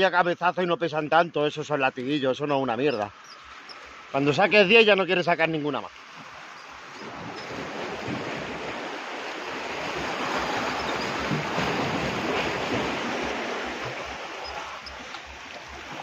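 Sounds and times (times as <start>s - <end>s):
sea surf washing on shore: 1.9s - 16.0s.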